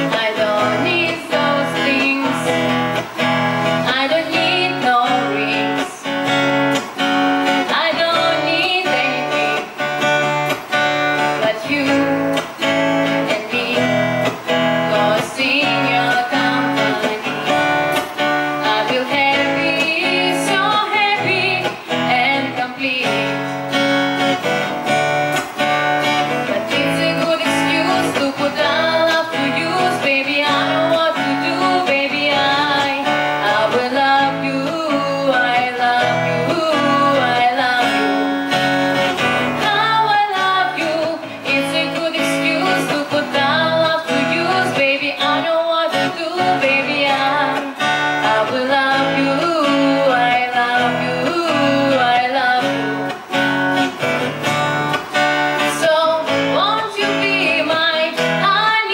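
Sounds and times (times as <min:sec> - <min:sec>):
acoustic guitar strumming: 0:00.0 - 0:58.9
woman singing: 0:00.0 - 0:58.9.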